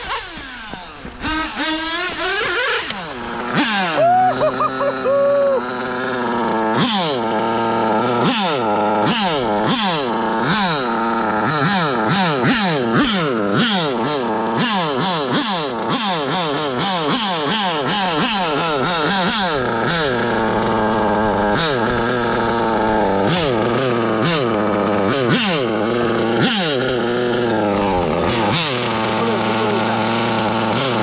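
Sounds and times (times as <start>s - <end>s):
model car nitro engine revving: 0.0s - 31.0s
model car passing by: 0.0s - 31.0s.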